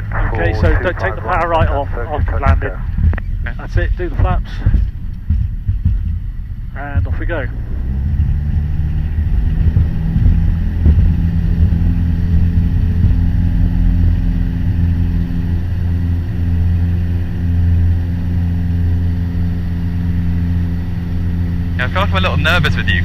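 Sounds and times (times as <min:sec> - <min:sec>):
light aircraft engine and propeller: 0:00.0 - 0:23.0.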